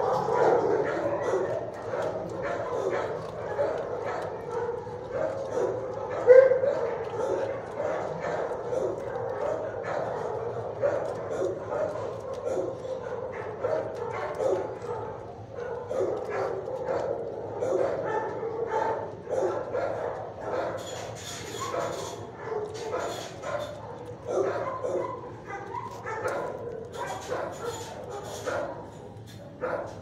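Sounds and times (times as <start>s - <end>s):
dogs barking and yipping: 0.0s - 30.0s.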